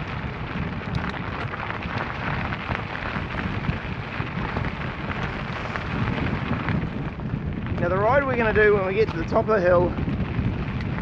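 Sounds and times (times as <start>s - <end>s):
bike tyres crackling on gravel: 0.0s - 11.0s.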